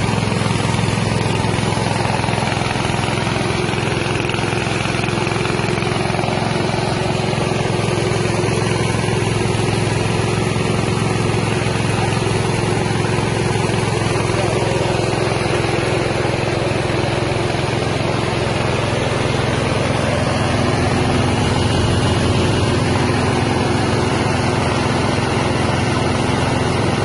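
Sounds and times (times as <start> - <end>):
rice milling machine droning: 0.0 - 27.0.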